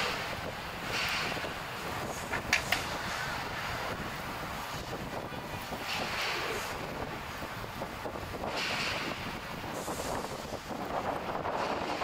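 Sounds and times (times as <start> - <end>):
boat traffic rushing: 0.0 - 12.0
wind buffeting the microphone: 0.0 - 12.0.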